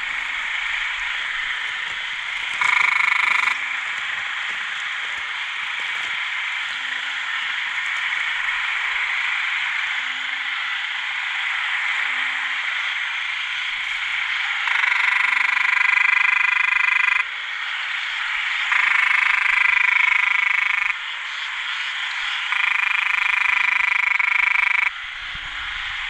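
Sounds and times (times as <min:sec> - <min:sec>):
chorus of frogs: 0:00.0 - 0:26.0
frog long drawn-out calls: 0:00.0 - 0:26.0.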